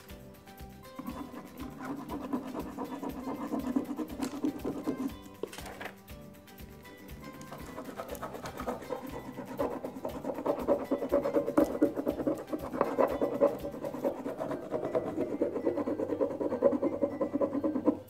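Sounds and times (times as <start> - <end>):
tool rubbing scratchily on paper: 0.8 - 5.4, 7.2 - 18.0.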